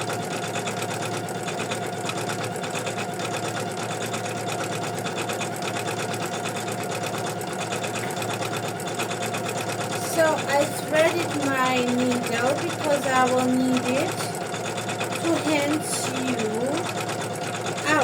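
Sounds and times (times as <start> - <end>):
embroidery machine stitching: 0.0 - 18.0.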